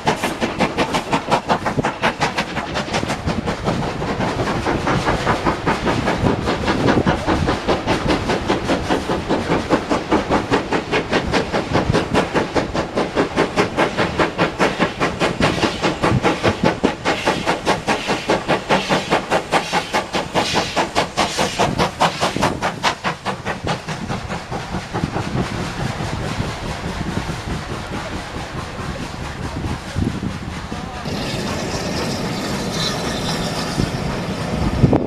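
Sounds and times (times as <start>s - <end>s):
steam locomotive exhaust beats: 0.0s - 35.0s.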